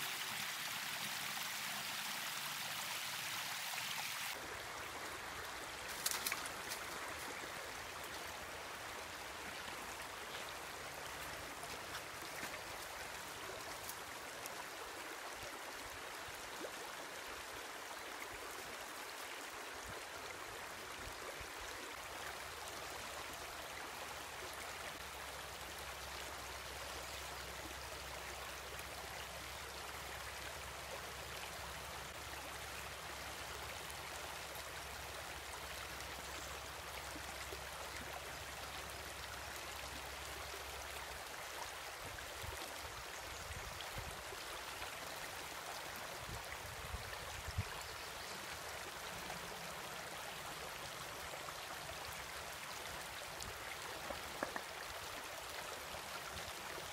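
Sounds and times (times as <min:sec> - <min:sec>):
creek water rushing over stones: 0:00.0 - 0:56.9.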